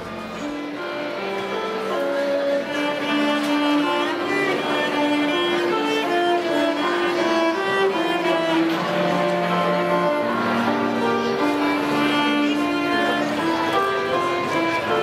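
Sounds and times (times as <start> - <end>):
low bowed strings: 0.0 - 15.0
violin melody: 0.0 - 15.0.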